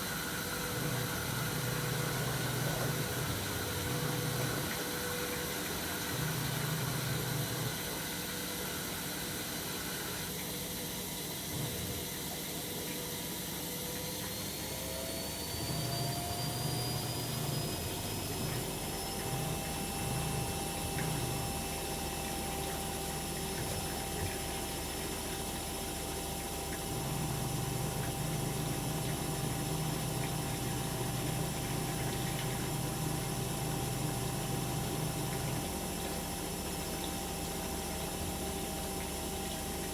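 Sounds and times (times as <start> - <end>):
washing machine running with water: 0.0 - 39.9.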